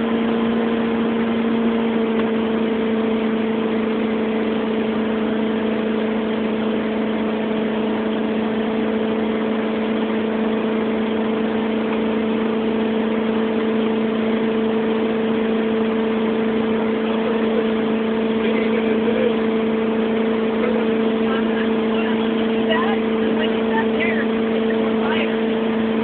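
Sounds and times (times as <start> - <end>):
motorboat engine drone: 0.0 - 26.0.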